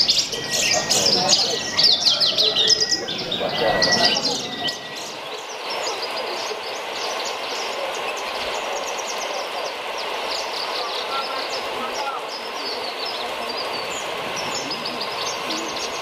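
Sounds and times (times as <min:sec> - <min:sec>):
bird singing high chirps and trills: 0:00.0 - 0:16.0.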